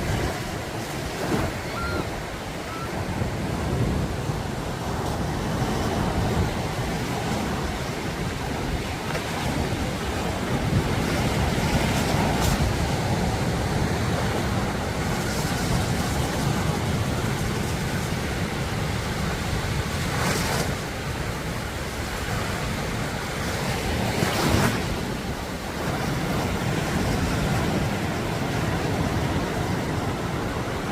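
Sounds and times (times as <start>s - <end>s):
sea surf washing in: 0.0s - 30.9s
waves breaking: 0.0s - 30.9s
wind rumble on microphone: 0.0s - 30.9s.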